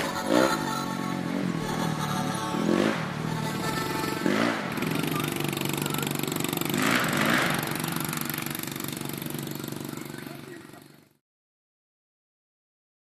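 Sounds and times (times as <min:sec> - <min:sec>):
dirt bike engine revving past: 0:00.0 - 0:11.2.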